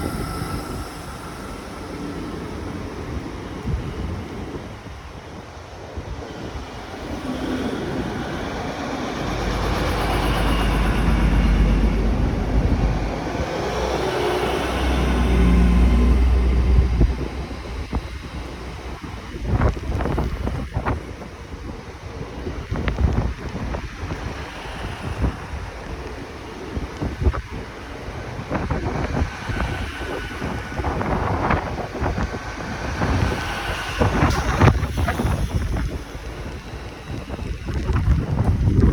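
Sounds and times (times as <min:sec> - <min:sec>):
train rumbling: 0:00.0 - 0:38.9
wind buffeting microphone: 0:00.0 - 0:38.9.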